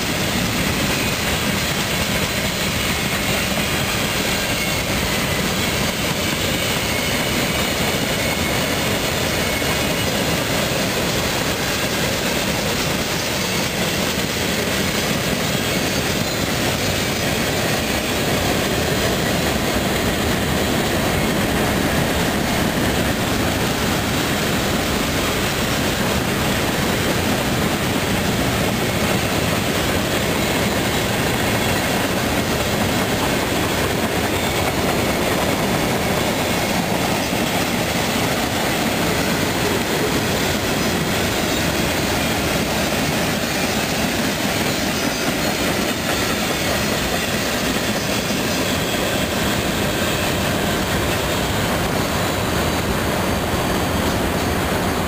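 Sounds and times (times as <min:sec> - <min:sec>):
freight train rolling past: 0:00.0 - 0:55.0
steel wheels clattering on rails: 0:00.0 - 0:55.0.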